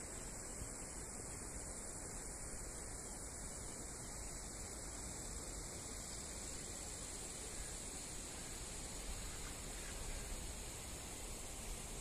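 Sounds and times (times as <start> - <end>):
steady hum and hiss: 0.0 - 12.0.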